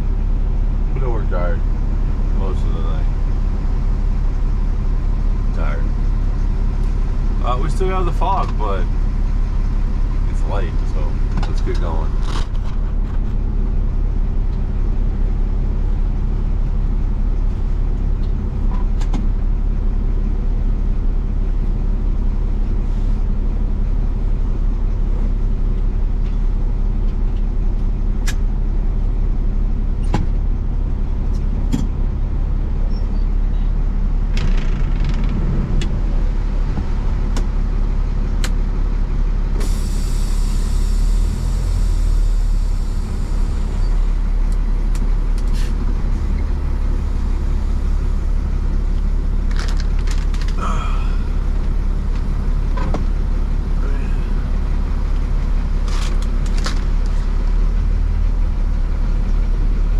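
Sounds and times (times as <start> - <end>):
road noise: 0.0 - 59.9
truck engine running: 0.0 - 59.9.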